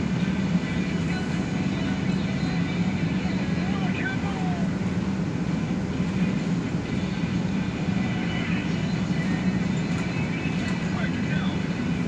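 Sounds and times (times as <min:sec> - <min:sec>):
bus engine and road noise: 0:00.0 - 0:12.0
constant low hum: 0:00.0 - 0:12.0.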